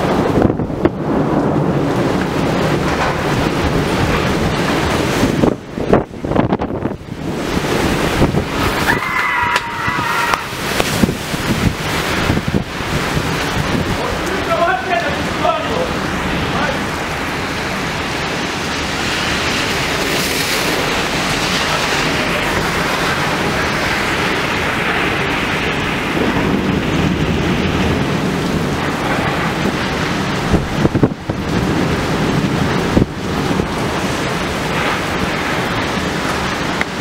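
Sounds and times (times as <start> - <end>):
heavy rain pouring: 0.0 - 37.0
thunder rumble: 0.0 - 37.0
wind buffeting microphone: 0.0 - 37.0.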